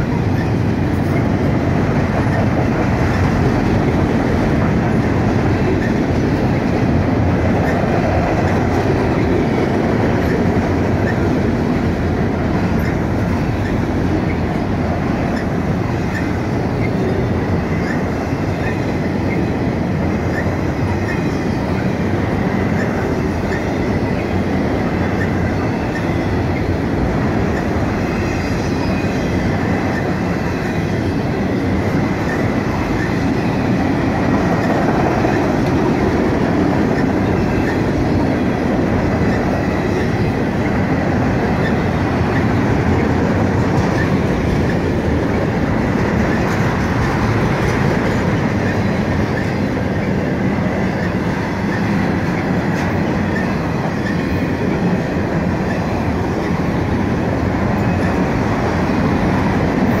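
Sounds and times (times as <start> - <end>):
steel wheels running on rails: 0.0 - 60.0.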